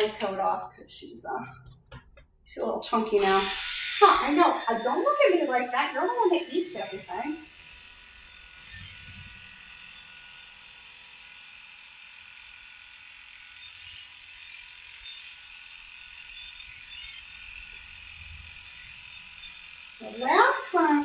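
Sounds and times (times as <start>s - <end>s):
electric clippers buzzing: 2.9s - 21.0s.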